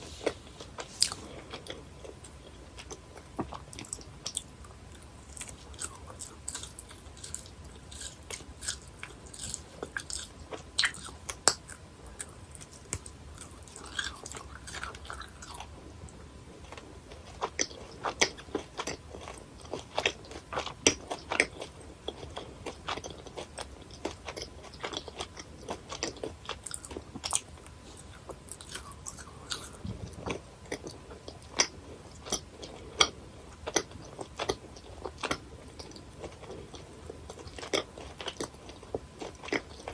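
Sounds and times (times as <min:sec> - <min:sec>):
chewing gummy candy: 0:00.2 - 0:15.7, 0:16.6 - 0:39.9.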